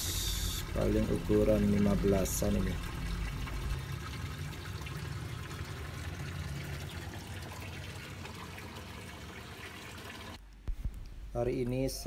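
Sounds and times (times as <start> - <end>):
water trickling and splashing: 0.0 - 10.4.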